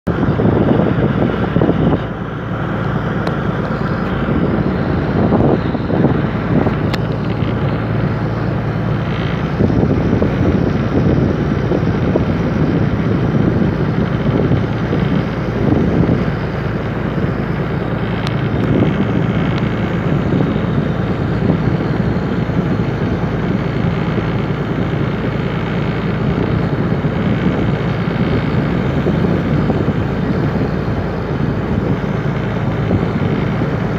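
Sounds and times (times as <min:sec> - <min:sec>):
engine running steadily: 0:00.0 - 0:33.9.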